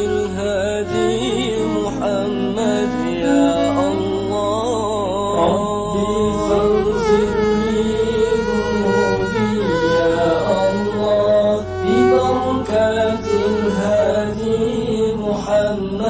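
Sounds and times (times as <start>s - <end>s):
men singing into microphones: 0.0s - 16.0s.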